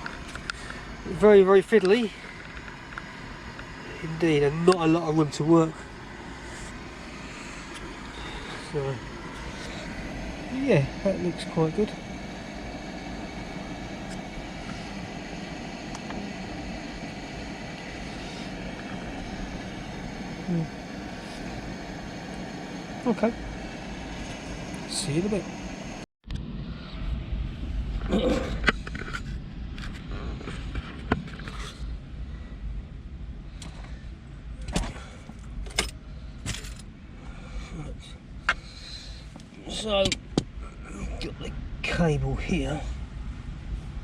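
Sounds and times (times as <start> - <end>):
steady background noise: 0.0 - 44.0
steady low rumble: 0.0 - 44.0.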